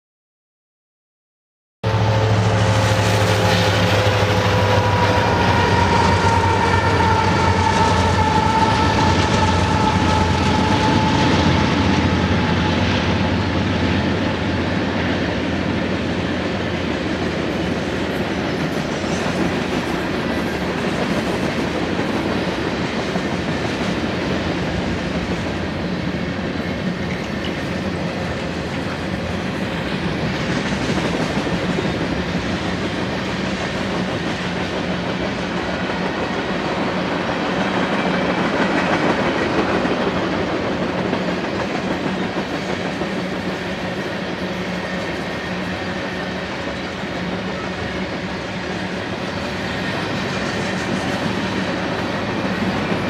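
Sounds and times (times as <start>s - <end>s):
low locomotive engine drone: 1.8s - 53.0s.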